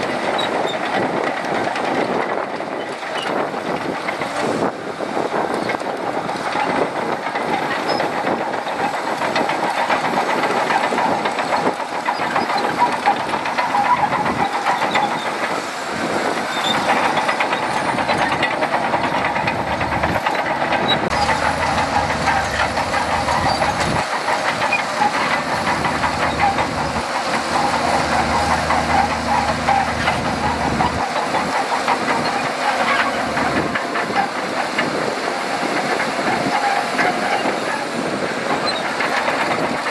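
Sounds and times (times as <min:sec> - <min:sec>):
bulldozer diesel engine under load: 0:00.0 - 0:39.9
steel tracks clattering: 0:00.0 - 0:39.9.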